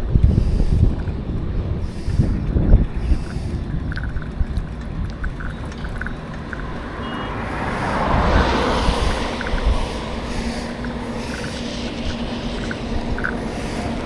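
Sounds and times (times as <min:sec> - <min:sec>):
road traffic: 0:00.0 - 0:14.0
wind buffeting microphone: 0:00.0 - 0:14.0
vehicle passing: 0:00.7 - 0:14.0.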